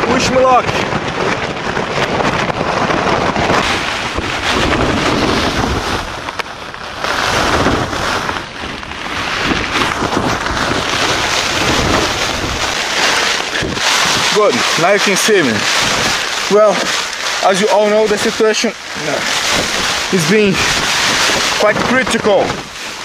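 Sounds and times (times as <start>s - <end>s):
wind gusts buffeting microphone: 0.0s - 23.0s.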